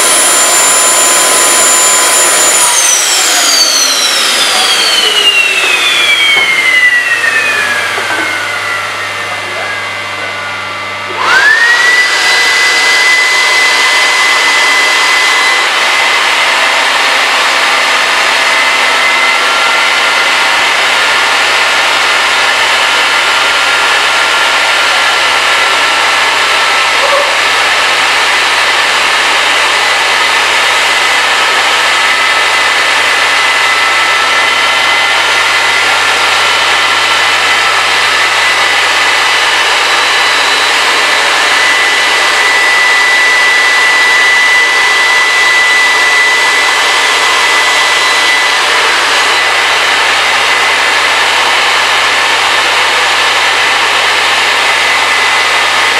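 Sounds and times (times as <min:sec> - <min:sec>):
high steady whine: 0:00.0 - 0:55.9.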